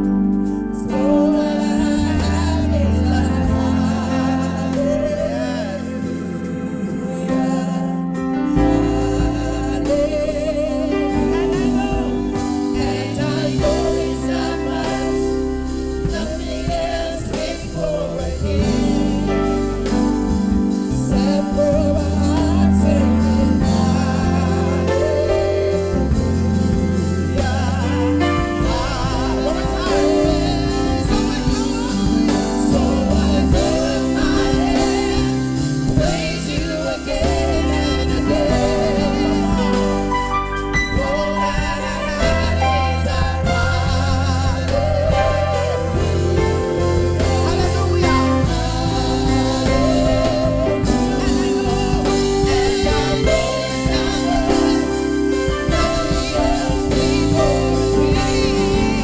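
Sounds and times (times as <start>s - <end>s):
band with bass: 0.0s - 59.0s
gospel singing: 0.0s - 59.0s.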